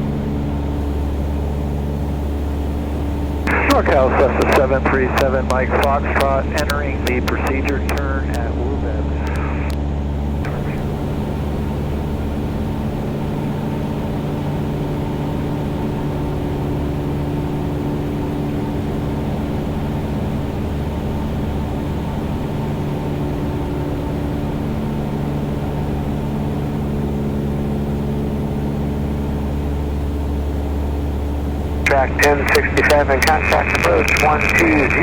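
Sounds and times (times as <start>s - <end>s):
propeller plane engine droning: 0.0s - 35.0s.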